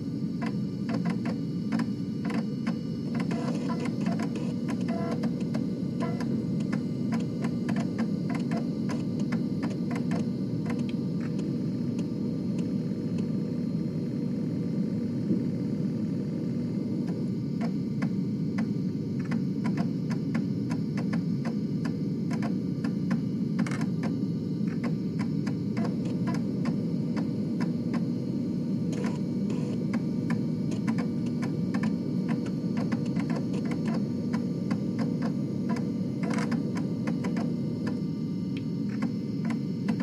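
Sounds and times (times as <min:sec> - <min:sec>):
disk drive motor hum: 0:00.0 - 0:40.0.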